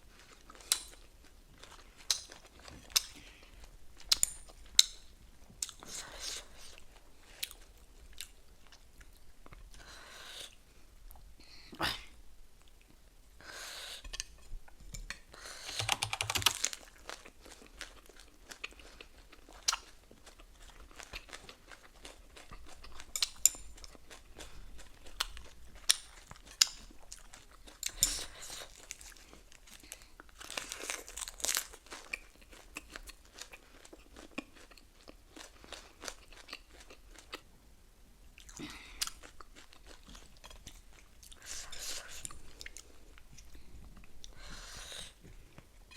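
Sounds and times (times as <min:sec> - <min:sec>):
person chewing and crunching: 0:00.1 - 0:09.9, 0:15.7 - 0:37.5, 0:38.4 - 0:45.2.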